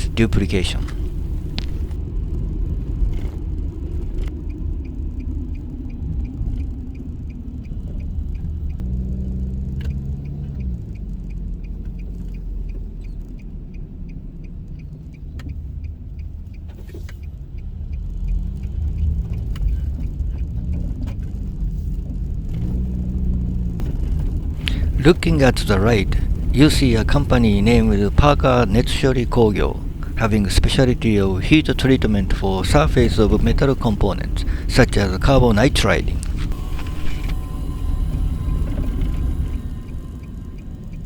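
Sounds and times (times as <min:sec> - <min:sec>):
car engine and road rumble: 0:00.0 - 0:41.0
light ticking: 0:00.0 - 0:41.0.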